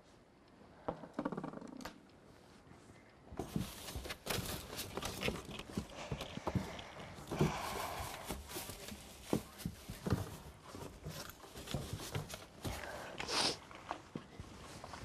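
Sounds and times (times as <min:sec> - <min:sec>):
rustling: 0:02.2 - 0:15.0.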